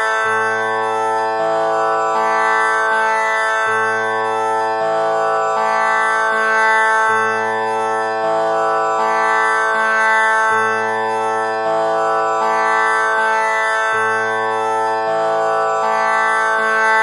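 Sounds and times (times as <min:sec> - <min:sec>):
tanpura droning: 0:00.0 - 0:17.0.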